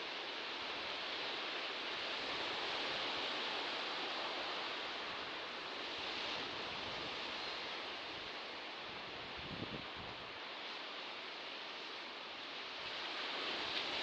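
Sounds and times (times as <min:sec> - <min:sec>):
sea surf washing: 0:00.0 - 0:14.0.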